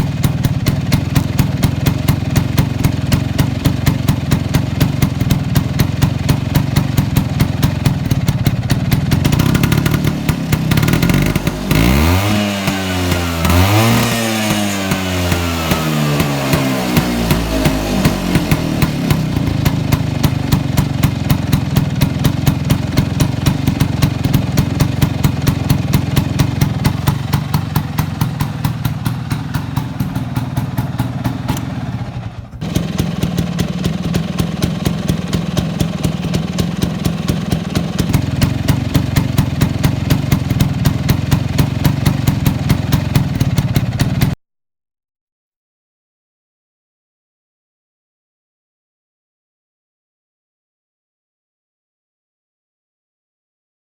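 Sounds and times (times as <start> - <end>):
scooter engine idling and revving: 0.0 - 44.4.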